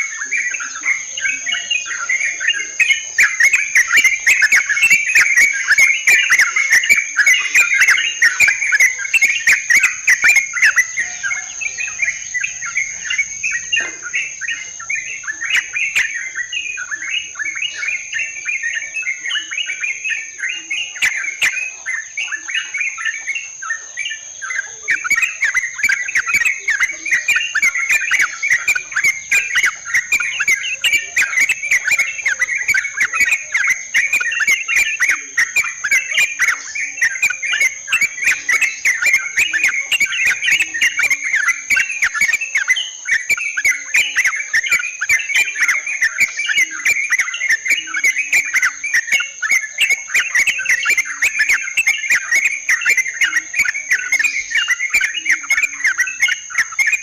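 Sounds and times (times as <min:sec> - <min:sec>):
bird bubbling chatter: 0:00.0 - 0:57.0
high insect-like whine: 0:00.0 - 0:57.0.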